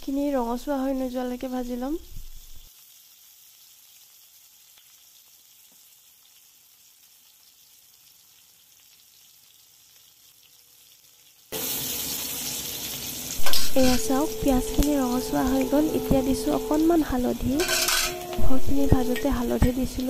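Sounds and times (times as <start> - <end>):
onions sizzling in oil: 0.0 - 20.0.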